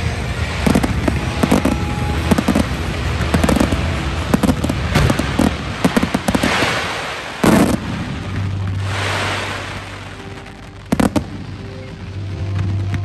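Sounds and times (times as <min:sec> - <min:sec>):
firework bang: 0:00.0 - 0:13.0
fireworks crackling: 0:00.0 - 0:13.0
fireworks hissing: 0:00.0 - 0:13.0.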